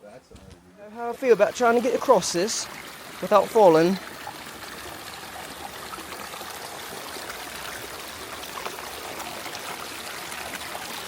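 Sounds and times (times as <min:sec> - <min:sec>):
stream rushing over rocks: 0:00.9 - 0:11.0.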